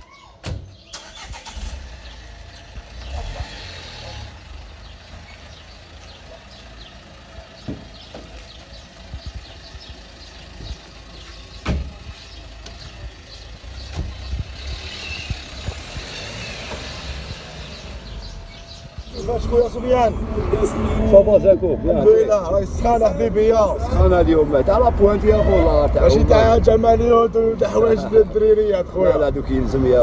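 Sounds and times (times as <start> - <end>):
car engine idling: 1.0 - 30.0.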